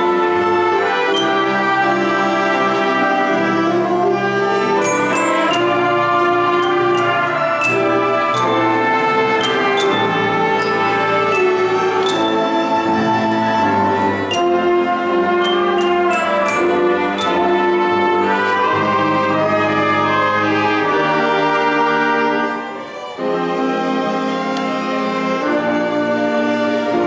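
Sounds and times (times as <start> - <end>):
orchestra playing held chords: 0.0 - 27.0.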